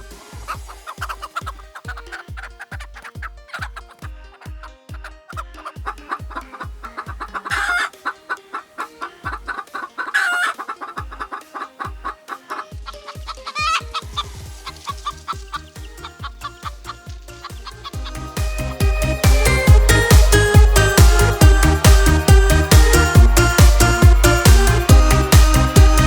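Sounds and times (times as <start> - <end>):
electronic music with fast beat: 0.0 - 8.1, 9.2 - 26.0
chickens clucking: 0.5 - 4.4, 5.3 - 26.0.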